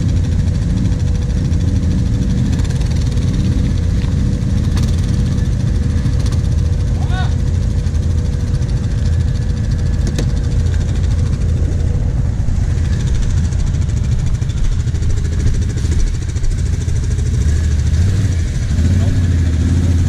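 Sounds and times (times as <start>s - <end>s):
atv engine idling: 0.0s - 20.0s
quads crawling through mud: 0.0s - 20.0s.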